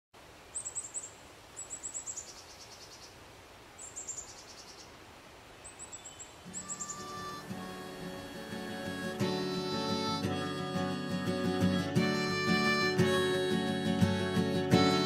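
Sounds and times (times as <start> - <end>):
faint outdoor hiss: 0.2 - 15.0
songbird singing high chirps: 0.5 - 3.2, 3.8 - 5.0, 5.6 - 15.0.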